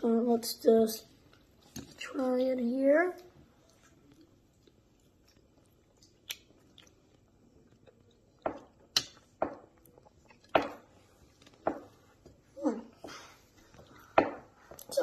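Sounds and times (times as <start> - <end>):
child chewing with wet smacks: 1.0 - 2.1, 3.0 - 15.0.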